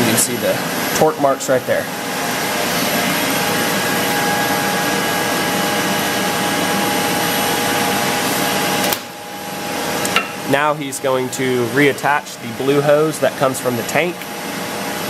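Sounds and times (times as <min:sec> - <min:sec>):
whooshing machine noise: 0:00.0 - 0:12.2.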